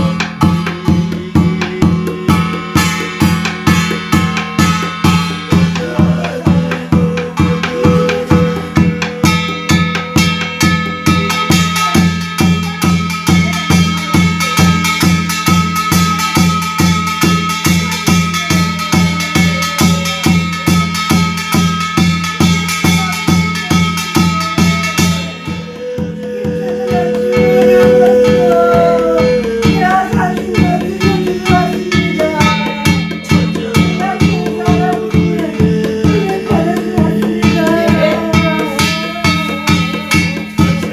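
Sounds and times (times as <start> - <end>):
barrel drum beaten: 0.0 - 40.9
brass gongs ringing: 0.0 - 40.9
steady high note: 0.0 - 40.9.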